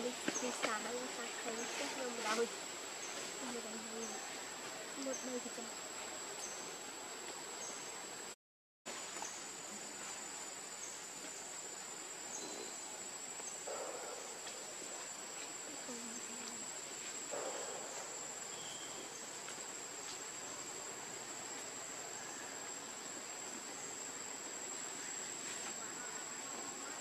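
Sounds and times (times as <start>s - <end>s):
insects trilling: 0.0s - 8.3s, 8.9s - 27.0s
soft hiss: 0.0s - 27.0s.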